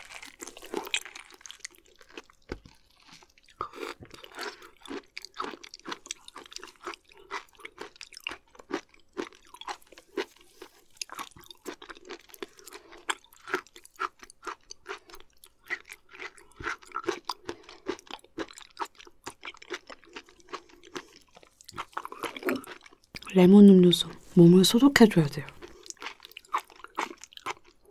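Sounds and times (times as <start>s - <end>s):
wet chewing: 0.0s - 23.3s.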